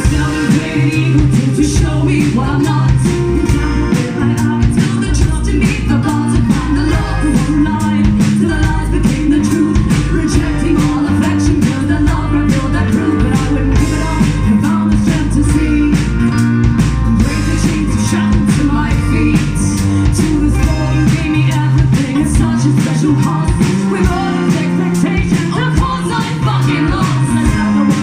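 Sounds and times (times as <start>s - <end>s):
drums: 0.0s - 28.0s
person singing: 0.0s - 28.0s
strummed guitars: 0.0s - 28.0s.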